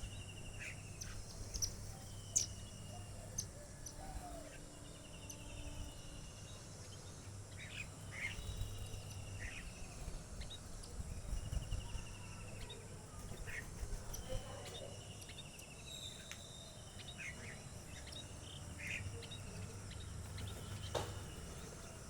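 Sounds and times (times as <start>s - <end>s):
bird chirps: 0.0s - 22.0s
high insect hum: 0.0s - 22.0s.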